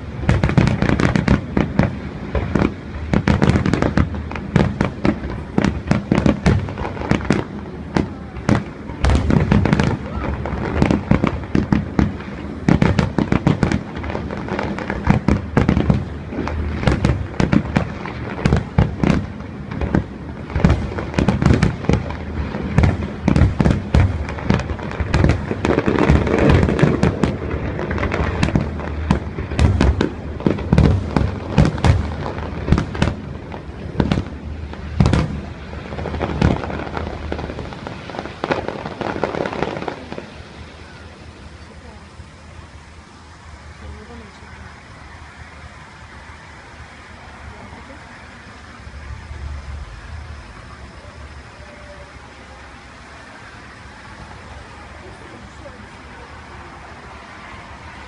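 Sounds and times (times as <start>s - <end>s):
continuous rumble: 0.0s - 58.0s
fireworks bangs and crackles: 0.0s - 58.0s.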